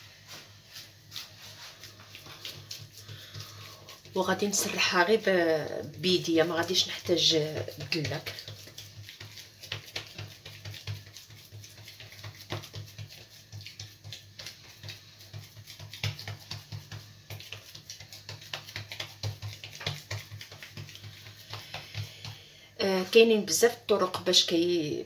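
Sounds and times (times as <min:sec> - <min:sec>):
hands patting wet dough: 0:00.2 - 0:25.0.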